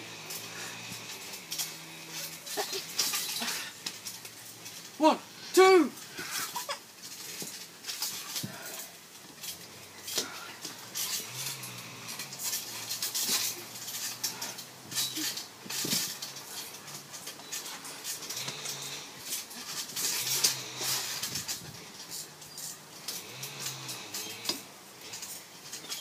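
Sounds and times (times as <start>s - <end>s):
trampoline springs creaking: 0.0s - 26.0s.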